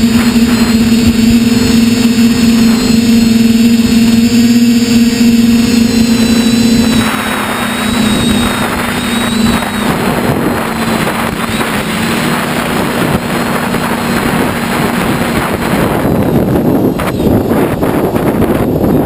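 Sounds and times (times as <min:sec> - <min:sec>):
model aircraft motor humming: 0:00.0 - 0:19.0
wind rushing over microphone: 0:00.0 - 0:19.0.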